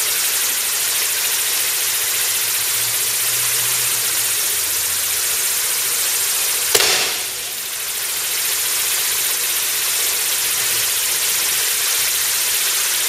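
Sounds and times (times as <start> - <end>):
firework fountain hissing: 0.0 - 13.0.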